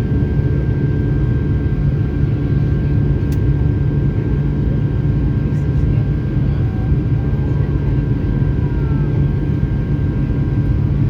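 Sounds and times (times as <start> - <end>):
jet engine whine: 0.0 - 11.0
jet engines rumbling: 0.0 - 11.0.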